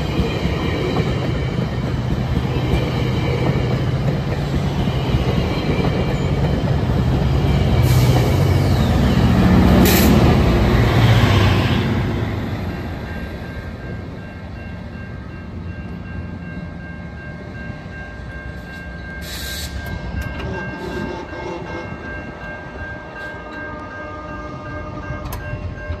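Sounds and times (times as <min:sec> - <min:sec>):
crossing warning bell ringing: 0:00.0 - 0:26.0
train rumbling: 0:00.0 - 0:26.0.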